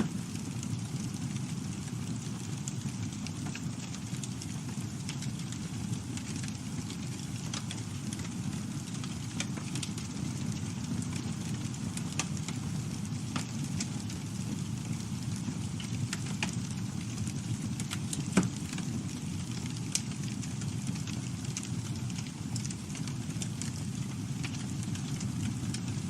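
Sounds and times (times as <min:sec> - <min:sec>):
low rumble of flame: 0:00.0 - 0:26.0
wood crackling and popping: 0:00.0 - 0:26.0.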